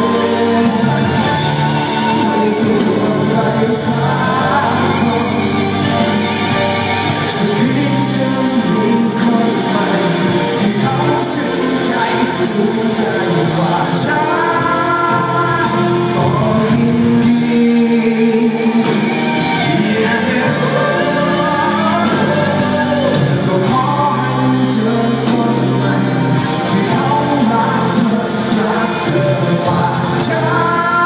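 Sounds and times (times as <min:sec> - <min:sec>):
drums: 0:00.0 - 0:31.0
electric guitar: 0:00.0 - 0:31.0
person singing: 0:00.0 - 0:31.0.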